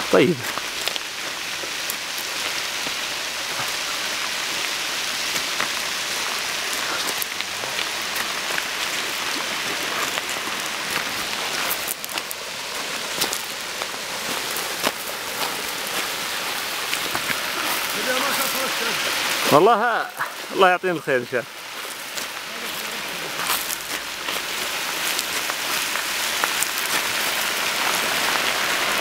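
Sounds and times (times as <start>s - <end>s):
flood water rushing over gravel: 0.0s - 29.0s.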